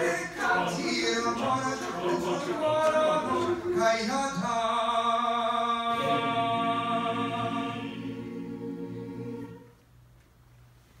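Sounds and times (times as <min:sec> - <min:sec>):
mixed choir singing a cappella: 0:00.0 - 0:09.8.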